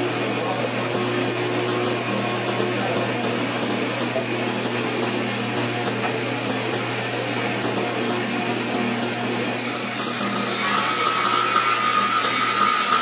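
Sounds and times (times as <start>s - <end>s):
table saw idling hum: 0.0s - 13.0s.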